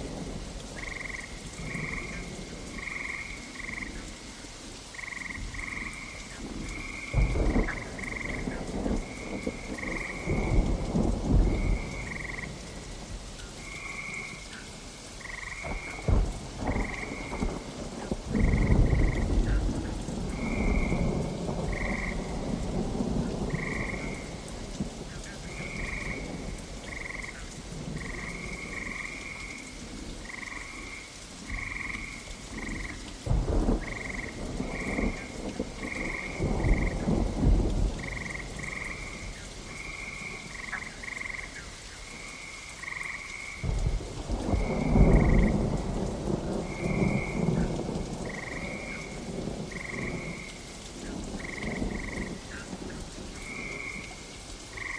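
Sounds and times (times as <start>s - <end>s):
steady rain: 0.0s - 54.9s
frogs croaking: 0.1s - 54.9s
thunder rumbling: 5.0s - 14.4s, 15.2s - 54.9s.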